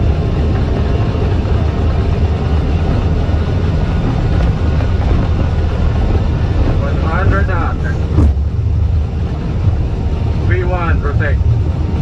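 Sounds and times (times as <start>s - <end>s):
aircraft engines deep rumble: 0.0s - 12.0s
rushing noise: 0.0s - 12.0s.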